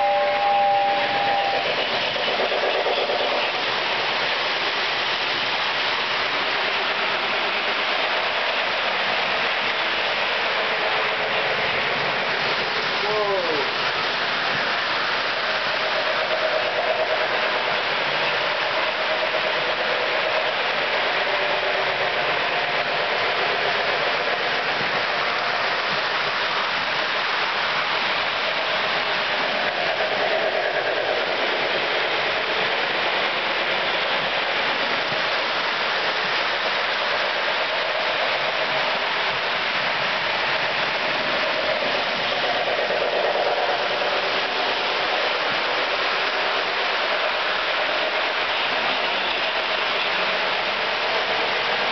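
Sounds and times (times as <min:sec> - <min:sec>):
model train whirring: 0:00.0 - 0:51.9.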